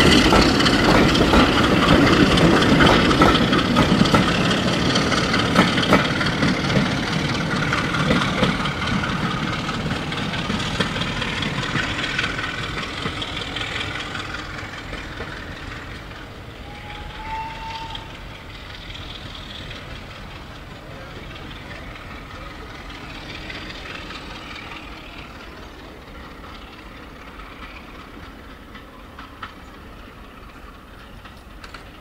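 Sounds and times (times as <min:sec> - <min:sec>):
diesel engine: 0:00.0 - 0:32.0
train wheels clattering over rails: 0:00.0 - 0:32.0.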